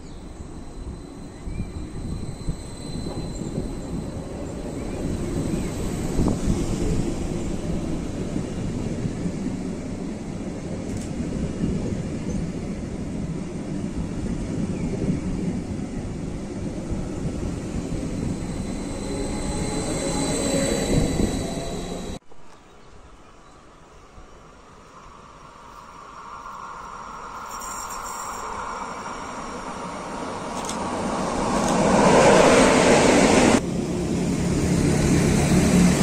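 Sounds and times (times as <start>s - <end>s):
thin train whine: 0.0s - 22.2s, 23.4s - 36.0s
train wheels rumbling past: 0.0s - 22.2s, 25.0s - 36.0s.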